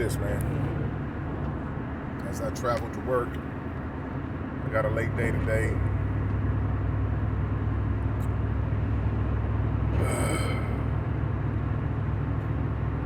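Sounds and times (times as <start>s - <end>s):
car engine and tyres drone: 0.0s - 13.0s.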